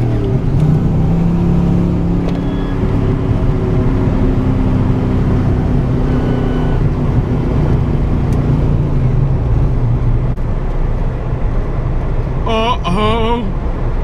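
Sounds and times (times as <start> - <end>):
car engine running at low revs: 0.0 - 14.0
tyre and road noise: 0.0 - 14.0.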